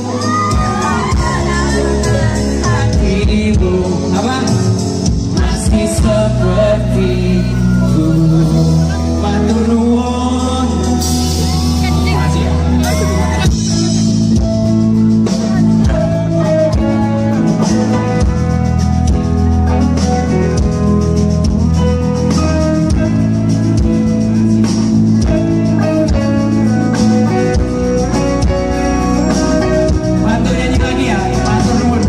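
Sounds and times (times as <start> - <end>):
drum kit: 0.0 - 32.0
electric bass: 0.0 - 32.0
guitar melody: 0.0 - 32.0.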